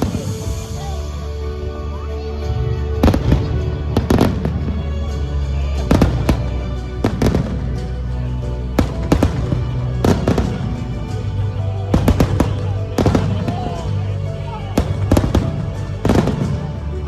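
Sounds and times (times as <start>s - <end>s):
music with steady bass: 0.0s - 17.0s.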